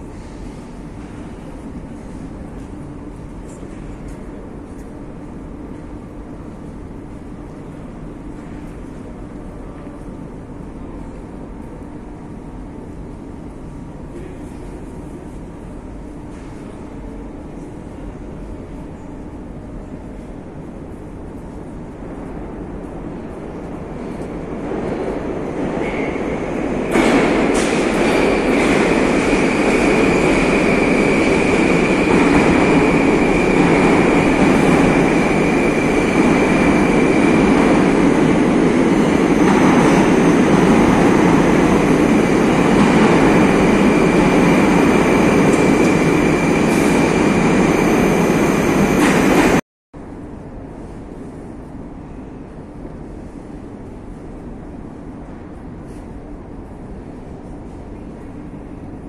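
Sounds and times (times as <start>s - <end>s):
train wheels rumbling: 0.0s - 49.6s.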